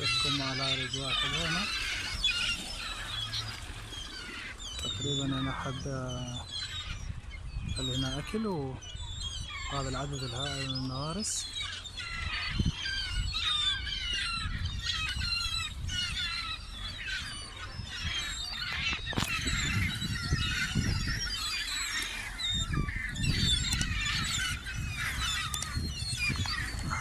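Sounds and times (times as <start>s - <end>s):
seagulls calling: 0.0s - 27.0s.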